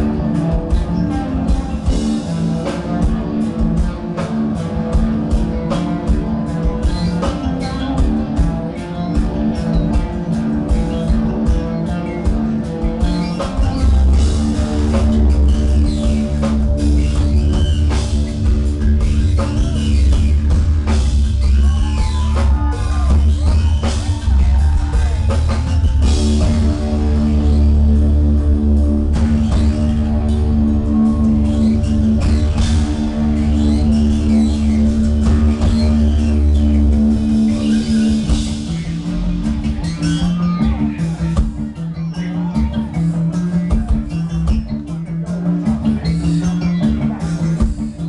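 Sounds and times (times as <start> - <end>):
heavy bass: 0.0 - 48.0
live rock band playing: 0.0 - 48.0.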